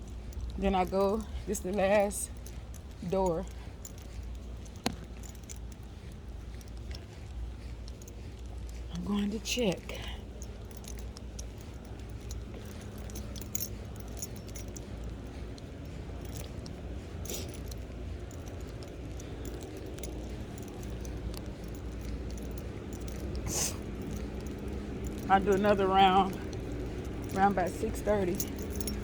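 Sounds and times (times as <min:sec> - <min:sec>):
keys clinking: 0:00.0 - 0:29.0
keys jingling on a ring: 0:00.0 - 0:29.0
steady low hum: 0:00.0 - 0:29.0.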